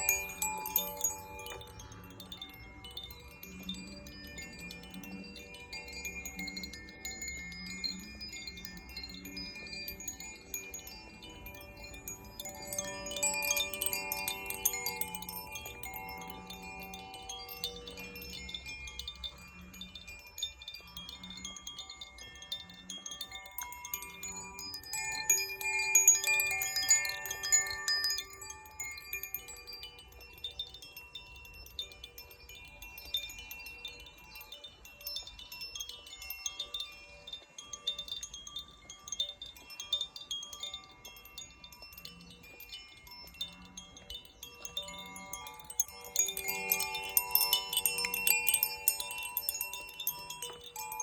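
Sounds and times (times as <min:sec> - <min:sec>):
wind chimes ringing: 0:00.0 - 0:51.0.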